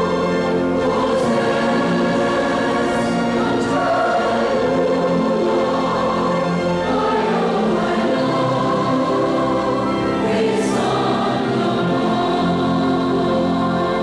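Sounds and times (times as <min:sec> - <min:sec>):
congregation singing: 0:00.0 - 0:14.0.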